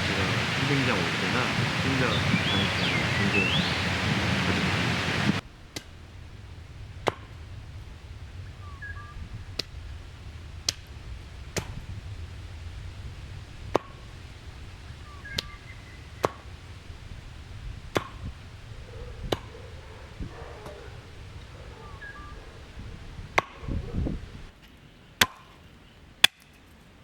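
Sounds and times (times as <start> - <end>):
low steady rumble: 0.0 - 24.6.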